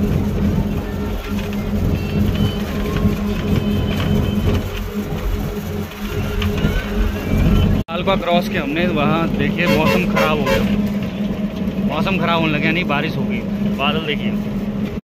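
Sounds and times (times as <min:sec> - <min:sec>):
bus engine drone: 0:00.0 - 0:15.0
road rumble: 0:00.0 - 0:15.0.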